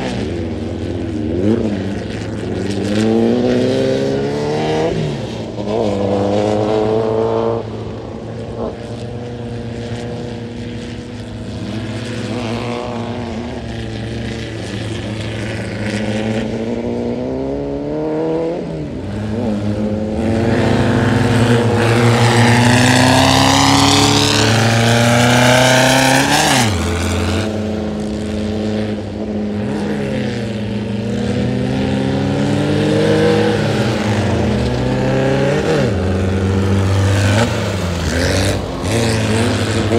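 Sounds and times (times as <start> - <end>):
buggy engines revving: 0.0 - 39.9
buggy passing close: 0.0 - 39.9.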